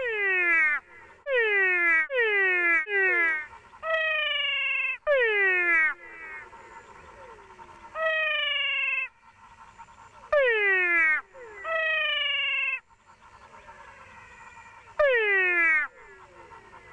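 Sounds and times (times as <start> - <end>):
faint frog chorus: 0.0 - 16.9
frogs giving meow-like calls: 0.0 - 16.9.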